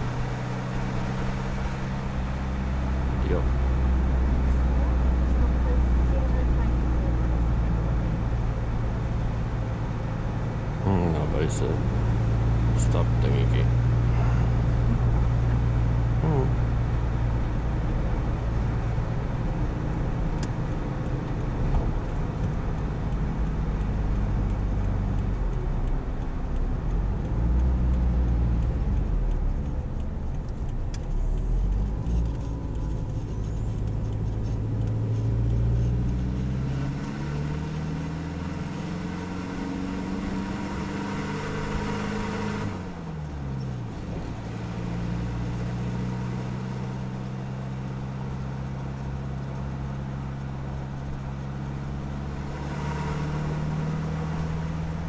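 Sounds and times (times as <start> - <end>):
diesel truck engine and exhaust: 0.0 - 55.0.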